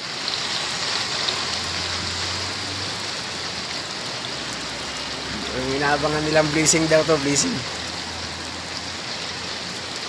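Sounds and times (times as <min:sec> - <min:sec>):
rain on wet street: 0:00.0 - 0:10.0.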